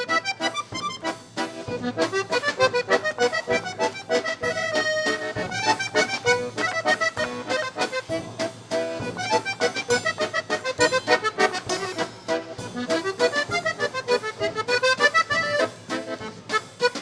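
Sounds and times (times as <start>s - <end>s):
accordion tune: 0.0s - 17.0s.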